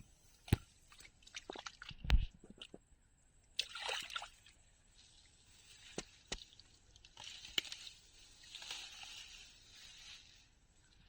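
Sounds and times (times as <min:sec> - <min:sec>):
water and mud sloshing by hand: 0:00.9 - 0:02.8, 0:03.6 - 0:11.0.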